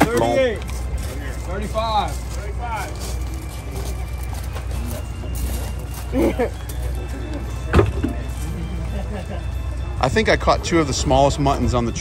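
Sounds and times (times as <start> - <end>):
faint voices talking: 0.0 - 12.0.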